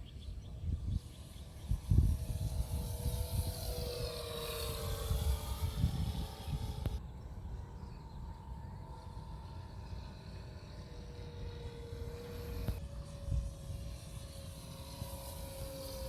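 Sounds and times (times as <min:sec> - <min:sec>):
model aircraft engine drone: 0:00.0 - 0:16.0
wind rumbling on microphone: 0:00.0 - 0:16.0.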